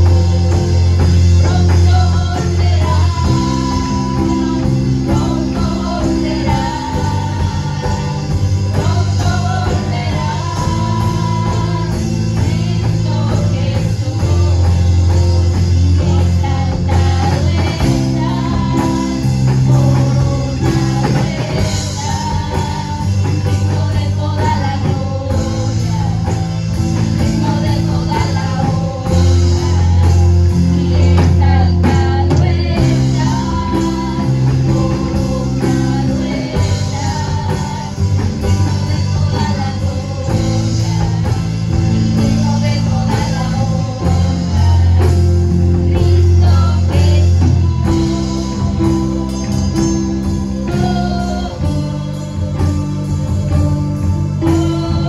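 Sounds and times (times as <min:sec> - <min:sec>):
praise band playing: 0:00.0 - 0:55.0
woman singing lead: 0:00.0 - 0:55.0.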